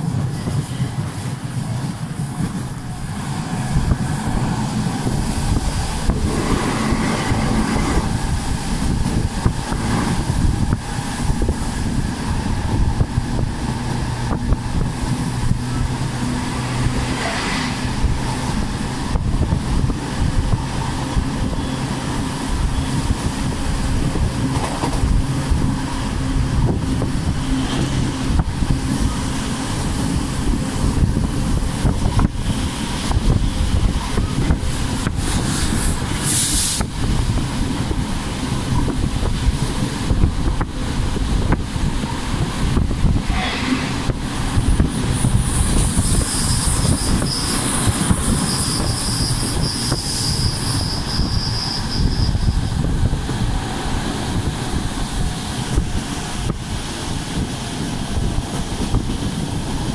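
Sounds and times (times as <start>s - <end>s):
train wheels rumbling on rails: 0.0s - 59.9s
wind rushing past window: 0.0s - 59.9s.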